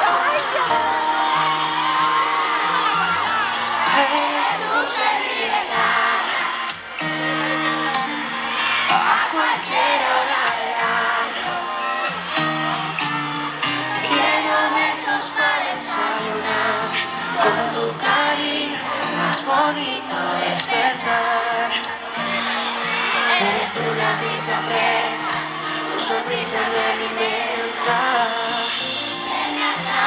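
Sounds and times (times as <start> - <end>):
band singing through sound system: 0.0 - 30.0
crowd cheering and shouting: 0.0 - 30.0.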